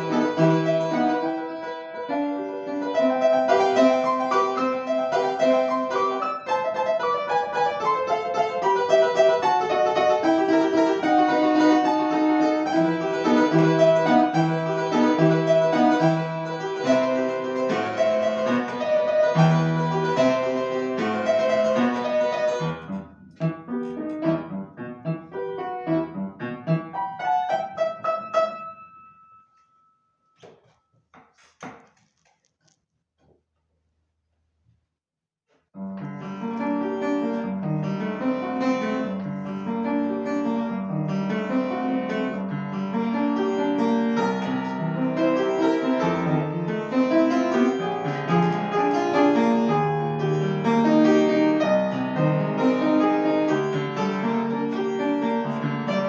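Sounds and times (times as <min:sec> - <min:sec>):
solo classical piano: 0:00.0 - 0:32.3, 0:35.7 - 0:56.0.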